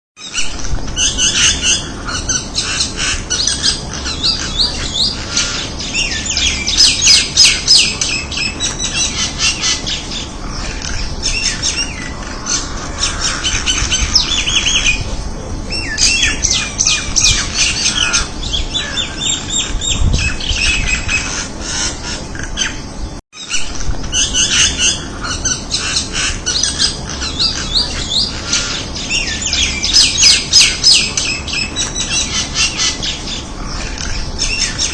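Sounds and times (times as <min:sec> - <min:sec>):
birds squawking and chirping: 0:00.2 - 0:34.9.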